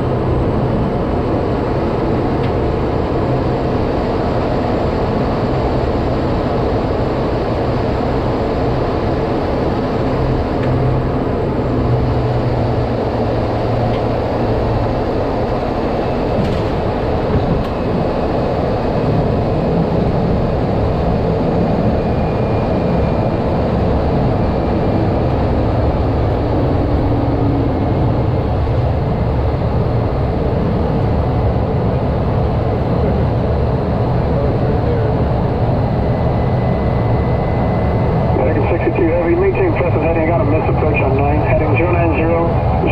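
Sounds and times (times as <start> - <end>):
turboprop engine drone: 0.0 - 42.9.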